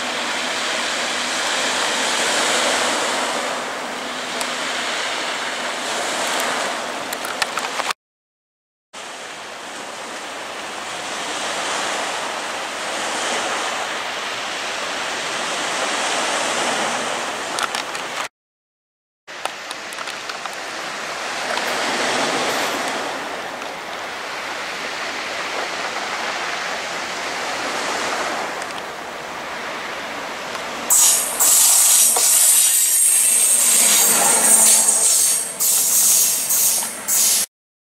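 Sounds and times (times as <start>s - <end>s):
sea surf on rocky shore: 0.0s - 7.9s, 9.0s - 18.3s, 19.4s - 35.9s.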